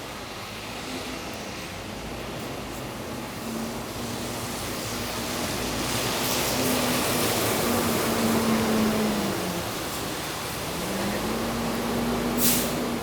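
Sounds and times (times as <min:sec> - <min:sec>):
tyre hiss on wet street: 0:00.0 - 0:13.0
low engine hum: 0:02.6 - 0:13.0.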